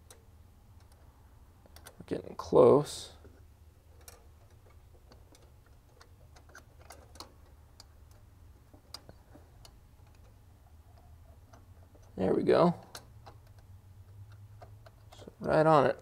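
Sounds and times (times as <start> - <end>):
small metal parts clicking: 0.0 - 2.1, 3.2 - 16.0.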